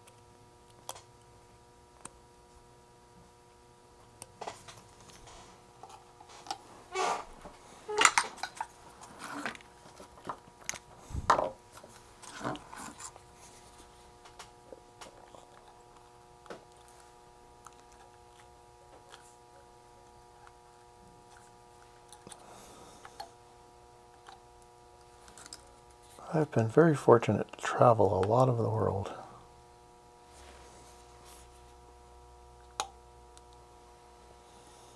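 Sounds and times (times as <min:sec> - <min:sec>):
faint multi-tone whine: 0:00.0 - 0:34.9.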